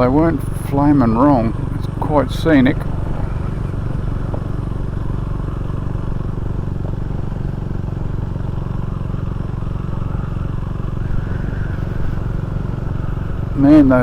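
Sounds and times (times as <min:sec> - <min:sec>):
motorcycle engine drone: 0:00.0 - 0:14.0
road and wind noise: 0:00.0 - 0:14.0.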